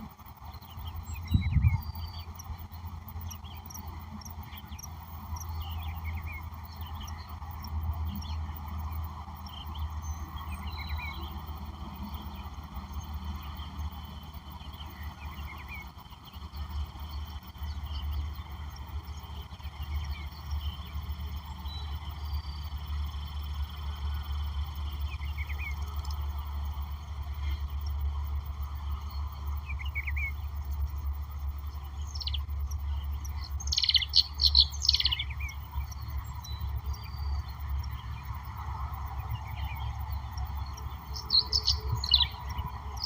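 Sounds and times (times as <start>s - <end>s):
birds chirping: 0.0s - 43.0s
steady low rumble: 0.0s - 43.0s.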